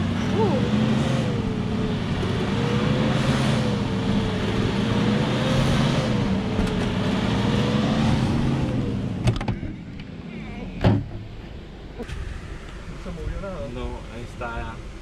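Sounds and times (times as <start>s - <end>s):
truck engine under load: 0.0s - 15.0s.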